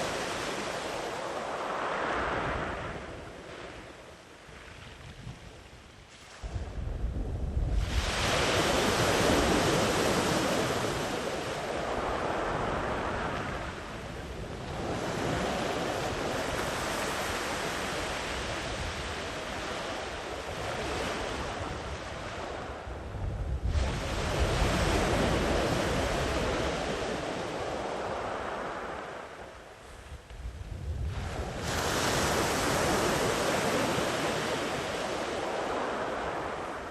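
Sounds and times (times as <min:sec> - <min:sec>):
sea waves breaking on beach: 0:00.0 - 0:04.9, 0:07.7 - 0:23.0, 0:23.6 - 0:30.0, 0:30.9 - 0:36.9.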